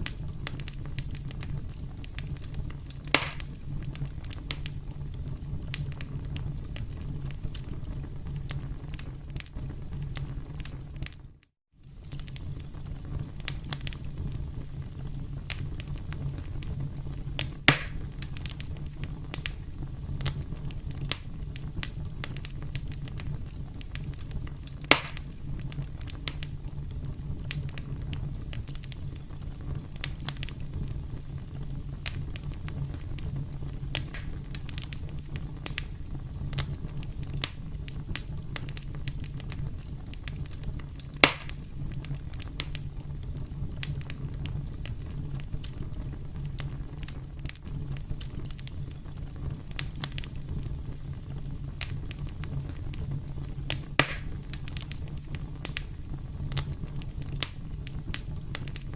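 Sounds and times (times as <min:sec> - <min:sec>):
campfire crackling: 0:00.0 - 0:58.9
sharp fire pops: 0:00.0 - 0:58.9.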